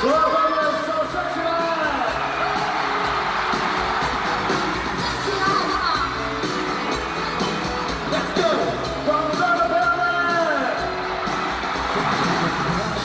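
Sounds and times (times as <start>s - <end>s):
live pop music with vocals: 0.0s - 13.0s.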